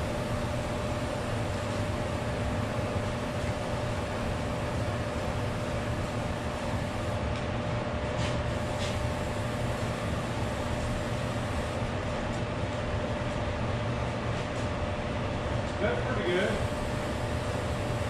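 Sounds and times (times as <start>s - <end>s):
heater blowing with hum: 0.0s - 18.0s.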